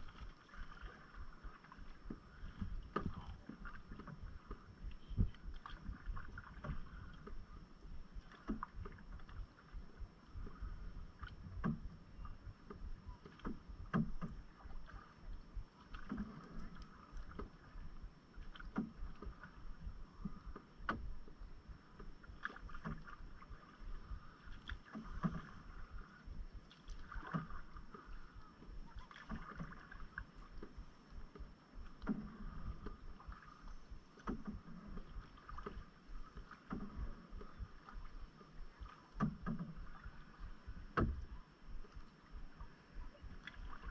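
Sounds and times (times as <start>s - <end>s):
paddle splashing water: 0.0s - 43.9s
wind rumble on microphone: 0.0s - 43.9s.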